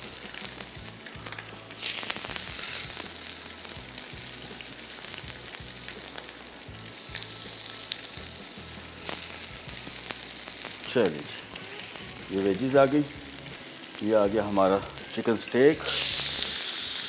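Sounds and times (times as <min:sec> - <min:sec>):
crackles of frying: 0:00.0 - 0:17.0
potato wedges sizzling in oil: 0:00.0 - 0:17.0.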